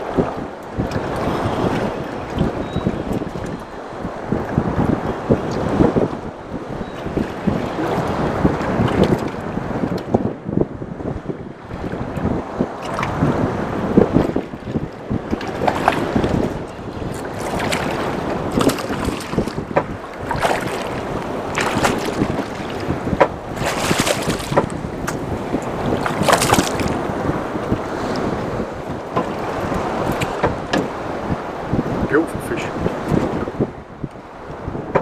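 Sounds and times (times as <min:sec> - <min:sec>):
water slapping against boat hull: 0:00.0 - 0:06.3, 0:07.0 - 0:10.4, 0:11.4 - 0:32.0, 0:32.8 - 0:35.0
wind buffeting microphone: 0:00.0 - 0:35.0.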